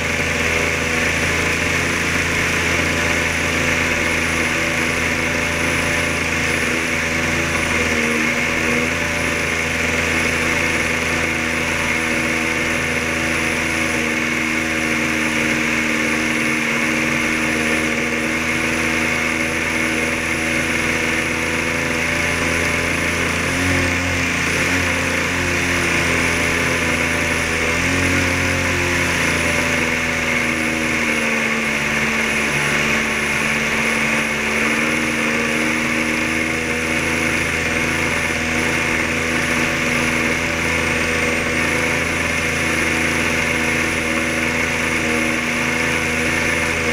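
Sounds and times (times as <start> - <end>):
small piston engine running: 0.0 - 46.9.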